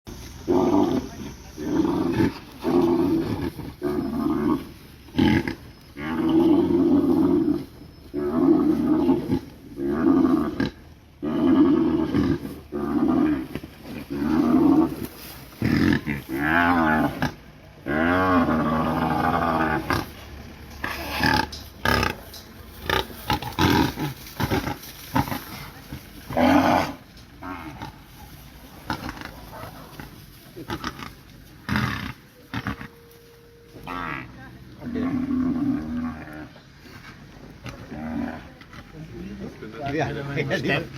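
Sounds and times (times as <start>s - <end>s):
rhinos roaring calls: 0.4s - 33.1s, 33.8s - 40.9s.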